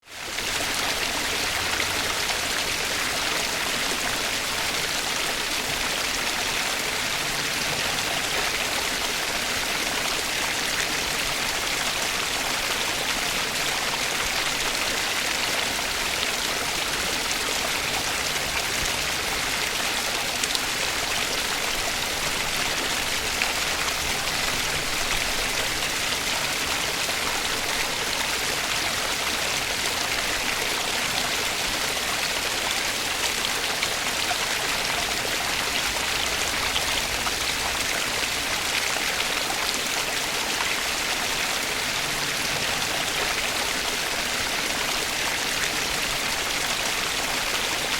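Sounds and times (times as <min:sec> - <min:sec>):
water running over rocks: 0:00.0 - 0:47.9.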